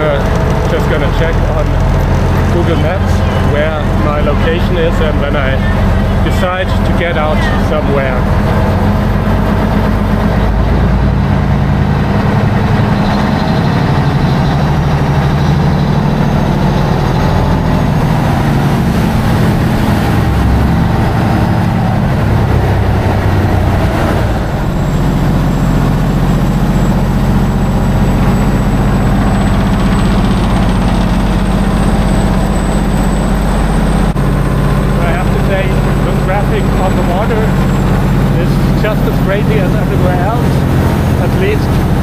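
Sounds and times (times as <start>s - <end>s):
boat engine running: 0.0s - 42.0s
water rushing: 0.0s - 42.0s.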